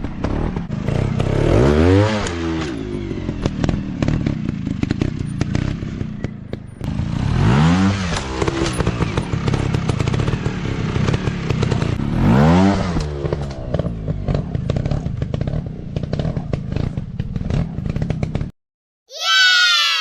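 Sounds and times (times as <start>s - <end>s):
dirt bike engine revving: 0.0s - 18.5s.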